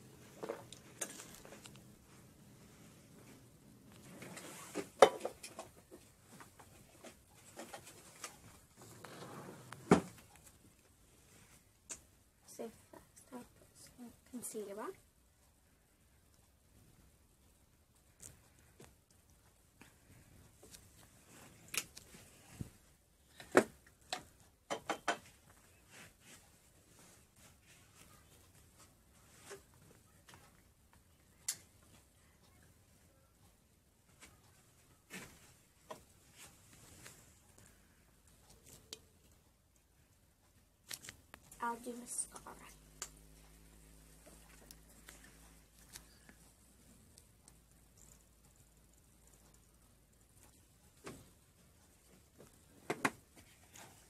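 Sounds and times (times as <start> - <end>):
faint room noise: 0.0 - 54.0.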